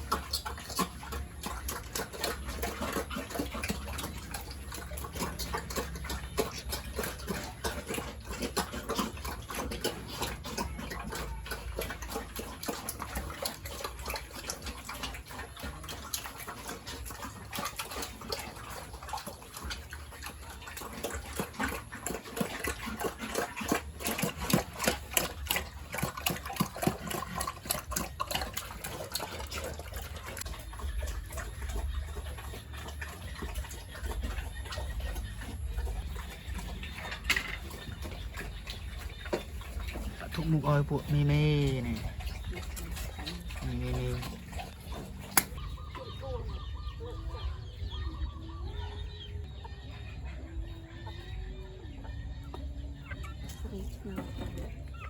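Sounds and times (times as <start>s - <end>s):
chickens clucking: 0.0s - 55.0s
pigs chomping and slurping: 0.0s - 55.0s.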